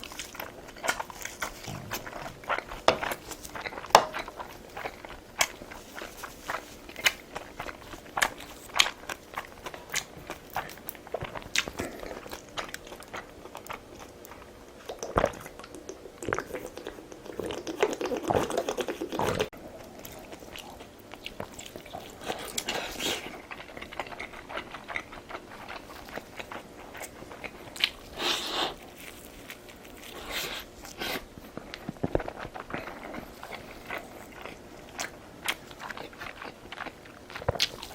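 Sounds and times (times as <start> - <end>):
crunching and clicking mouth noises: 0.0 - 37.9
person biting and chewing food: 0.0 - 37.9.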